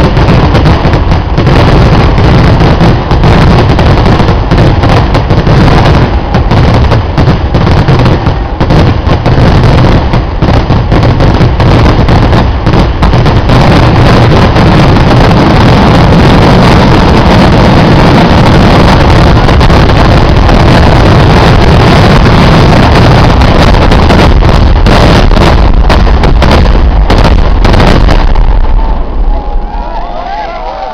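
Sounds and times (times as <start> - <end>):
fireworks explosions: 0.0 - 30.9.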